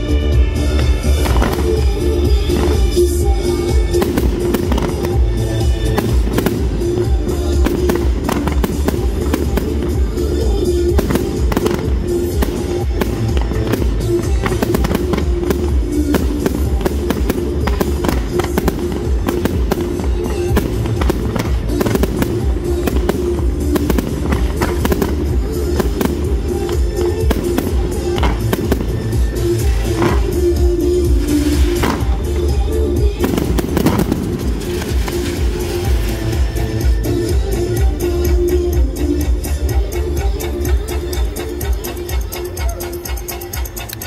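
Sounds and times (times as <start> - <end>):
fireworks bangs and crackles: 0.0 - 44.0
music with steady bass: 0.0 - 44.0.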